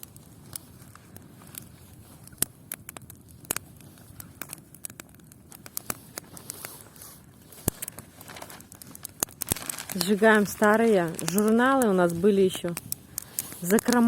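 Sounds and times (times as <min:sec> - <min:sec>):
campfire crackling: 0:00.0 - 0:14.0
sharp pops from fire: 0:00.0 - 0:14.0.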